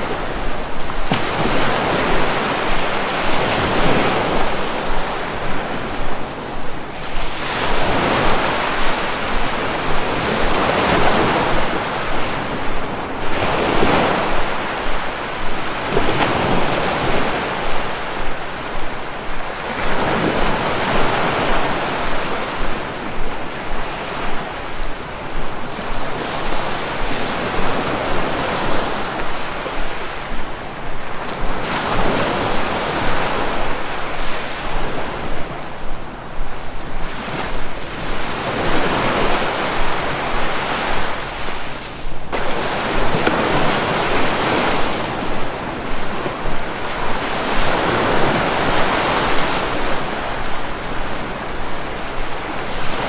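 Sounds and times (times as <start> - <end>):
waves breaking on shore: 0.0 - 53.0.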